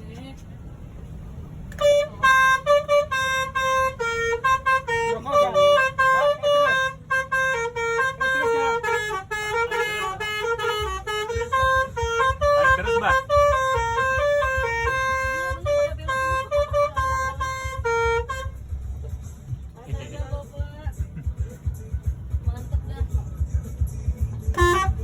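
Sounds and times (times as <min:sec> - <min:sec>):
bus horn playing tune: 0:01.7 - 0:20.3, 0:22.6 - 0:25.0.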